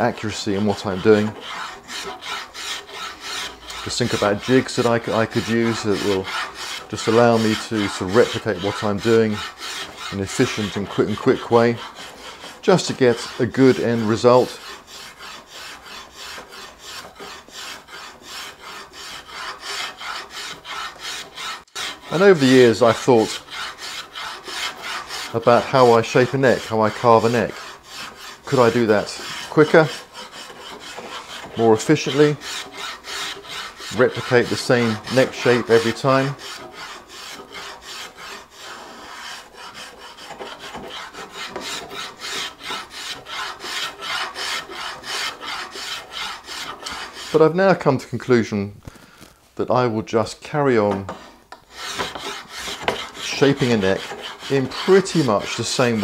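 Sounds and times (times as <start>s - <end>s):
spokeshave scraping wood: 0.0s - 48.0s, 50.2s - 56.0s.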